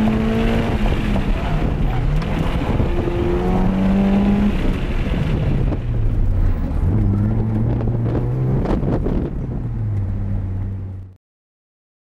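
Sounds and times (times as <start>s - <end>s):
wind noise: 0.0s - 10.4s
car engine from inside cabin: 0.0s - 11.1s.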